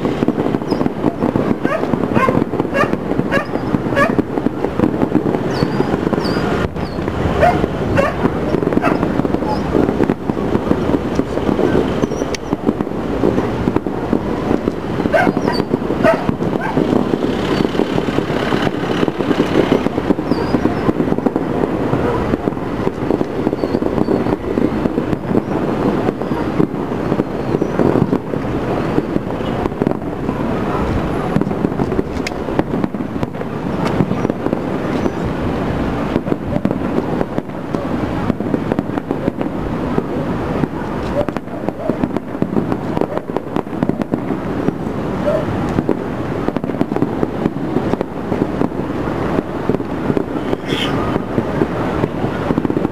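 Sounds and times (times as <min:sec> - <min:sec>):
distant fireworks bangs and crackles: 0:00.0 - 0:52.9.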